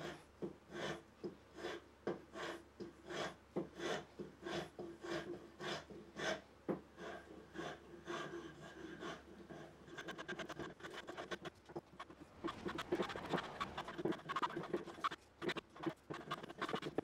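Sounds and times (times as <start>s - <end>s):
hand tool scraping wood: 0.0s - 6.4s, 7.0s - 17.0s.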